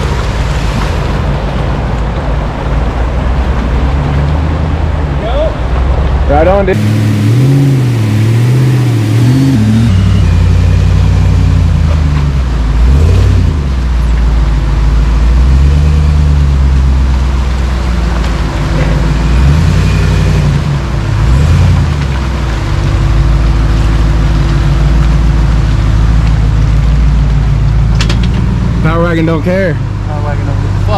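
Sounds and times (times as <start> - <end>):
truck engine running at low revs: 0.0 - 30.9.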